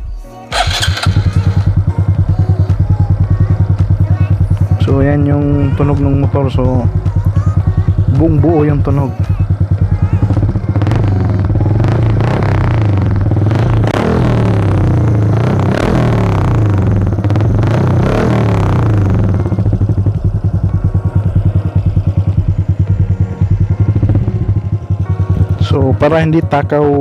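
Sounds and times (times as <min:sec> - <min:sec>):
motorcycle engine revving and idling: 0:00.5 - 0:27.0.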